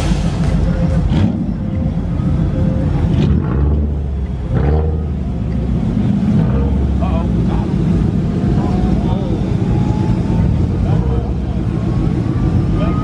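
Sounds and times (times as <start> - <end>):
car engine and exhaust rumbling: 0.0 - 13.0.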